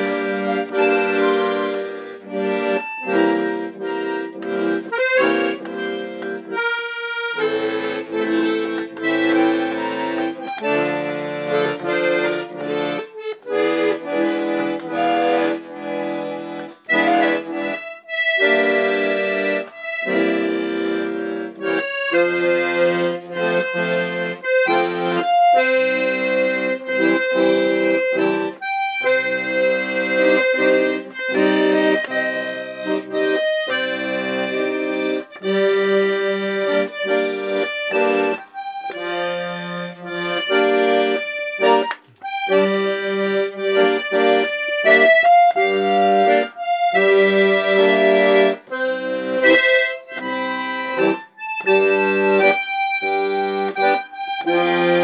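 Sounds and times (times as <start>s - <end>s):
accordion playing tango: 0.0s - 55.0s.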